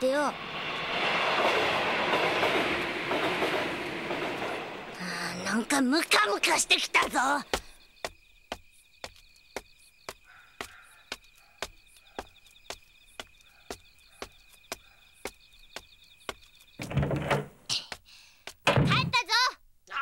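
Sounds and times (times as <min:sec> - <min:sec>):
insects chirring at night: 0:00.0 - 0:18.6.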